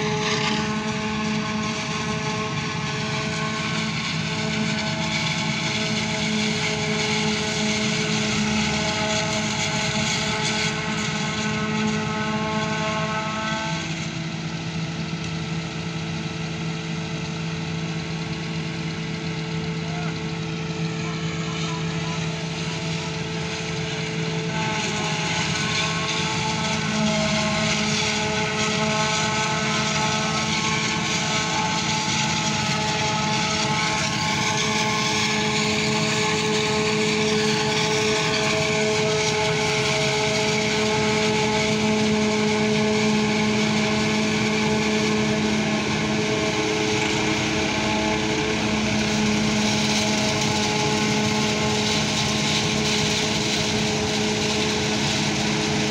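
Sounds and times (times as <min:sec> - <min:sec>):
forage harvester machinery drone: 0:00.0 - 0:55.9.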